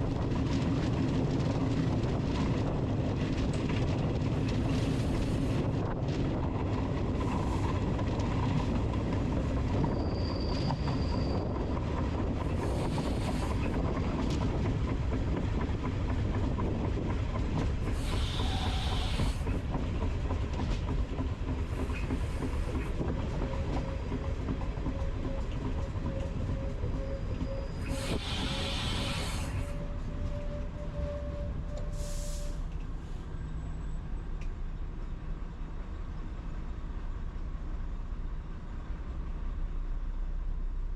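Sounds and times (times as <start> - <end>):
train rumbling on rails: 0.0 - 40.9.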